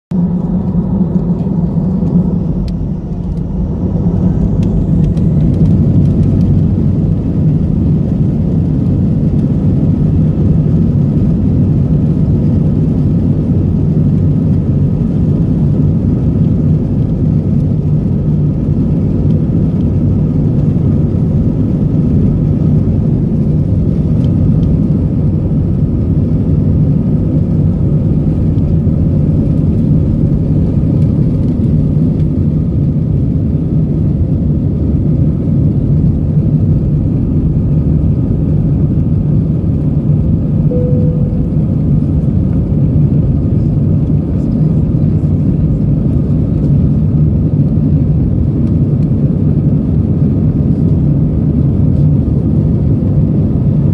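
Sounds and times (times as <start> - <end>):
jet engines rumbling: 0.1 - 53.9.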